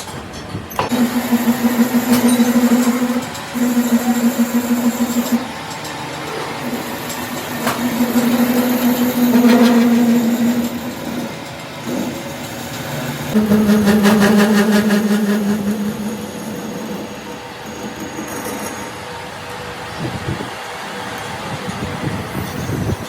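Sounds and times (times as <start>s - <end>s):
workshop machine humming: 0.7s - 23.0s.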